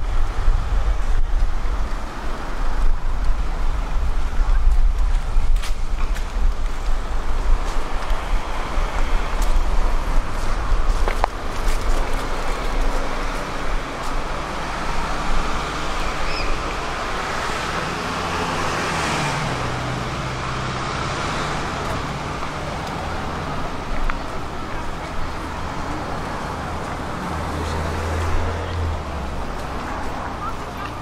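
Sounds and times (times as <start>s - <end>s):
traffic hum: 0.0s - 31.0s
vehicle passing: 0.0s - 31.0s.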